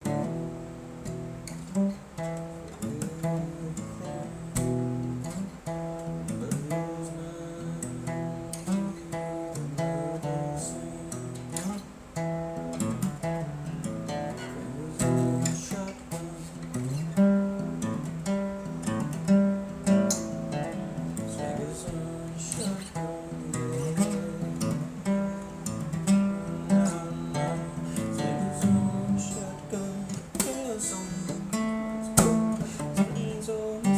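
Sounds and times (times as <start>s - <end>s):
acoustic guitar playing blues: 0.0s - 33.9s.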